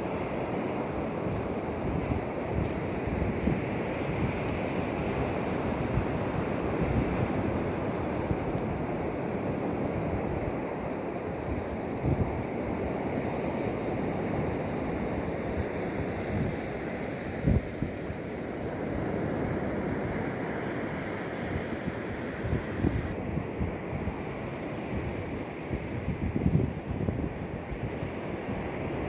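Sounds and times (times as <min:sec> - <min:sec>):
sea surf washing: 0:00.0 - 0:25.9
wind blowing across microphone: 0:00.0 - 0:29.0.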